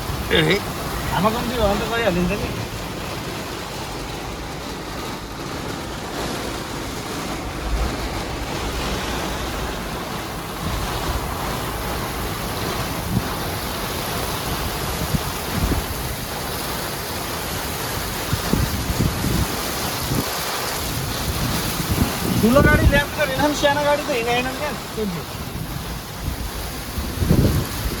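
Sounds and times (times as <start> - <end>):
wind and rain in a storm: 0.0 - 28.0
wind gusts thumping on microphone: 0.0 - 28.0.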